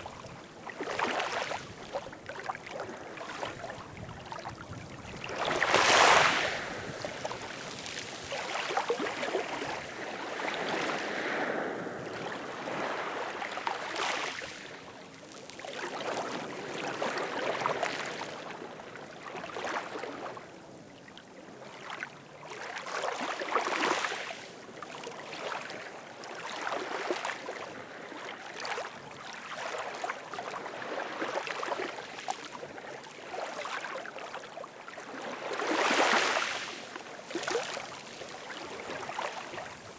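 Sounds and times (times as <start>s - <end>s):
ocean waves breaking on shore: 0.0s - 20.6s, 25.6s - 39.9s.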